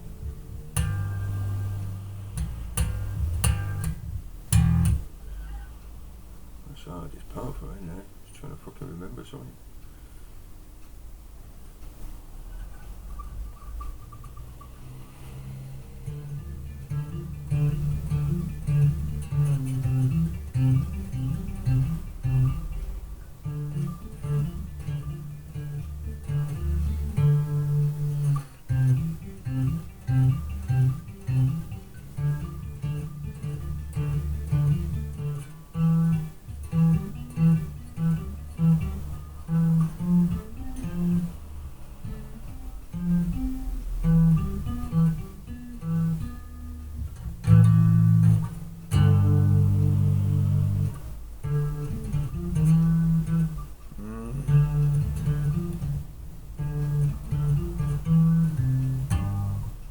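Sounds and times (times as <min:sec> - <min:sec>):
electric bass guitar notes: 0:00.0 - 0:05.4, 0:13.2 - 0:59.9.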